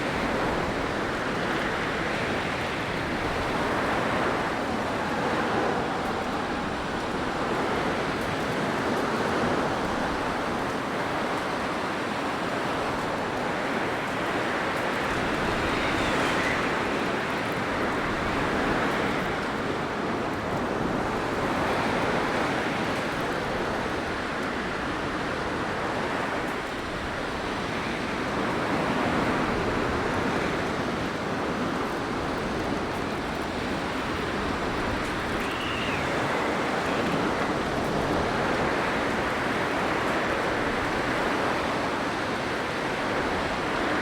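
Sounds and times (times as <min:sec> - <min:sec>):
blizzard wind rushing: 0:00.0 - 0:44.0.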